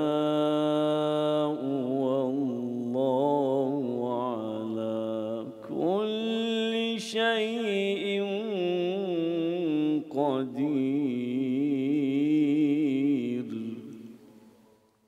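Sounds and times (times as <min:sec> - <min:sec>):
man reciting in melodic chant: 0:00.0 - 0:14.3.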